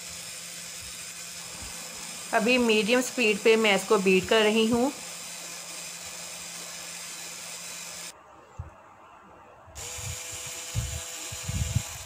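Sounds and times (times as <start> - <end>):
electric hand mixer whirring: 0.0 - 8.1, 9.8 - 12.0.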